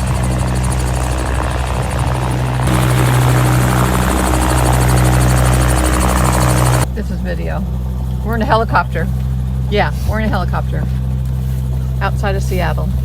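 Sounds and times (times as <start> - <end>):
helicopter cabin drone: 0.0 - 13.0.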